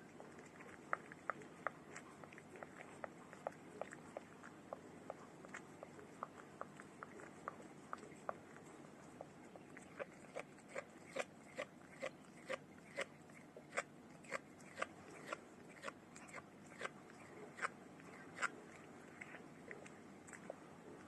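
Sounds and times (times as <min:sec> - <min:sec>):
cat crunching dry food: 0:00.0 - 0:20.5.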